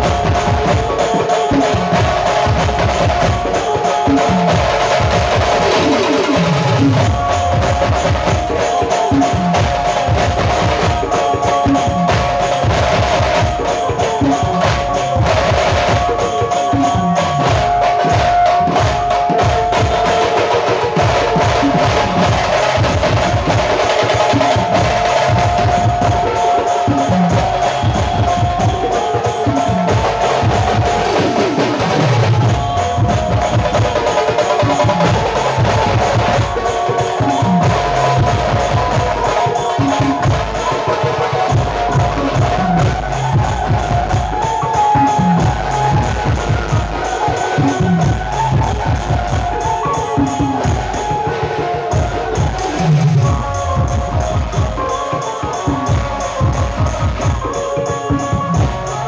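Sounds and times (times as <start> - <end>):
held higher tone: 0.0 - 59.0.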